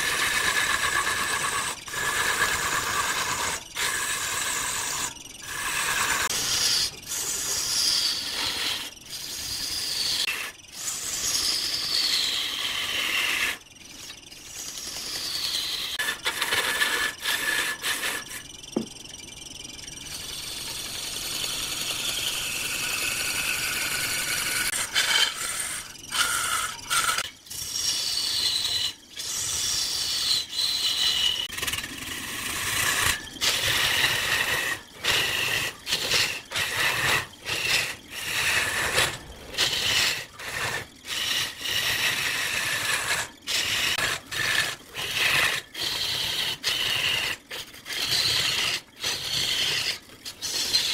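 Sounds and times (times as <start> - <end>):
lathe tool scraping wood: 0.0 - 18.9, 20.1 - 50.9.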